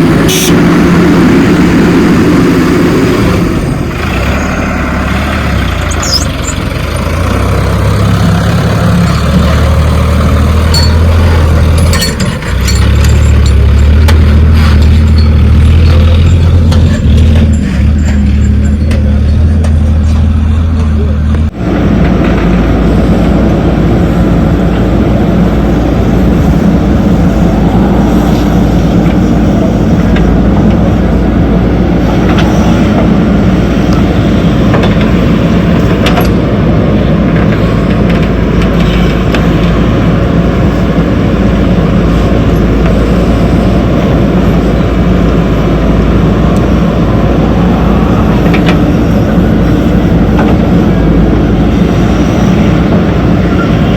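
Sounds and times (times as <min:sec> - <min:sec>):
heavy diesel machinery engine: 0:00.0 - 0:53.9.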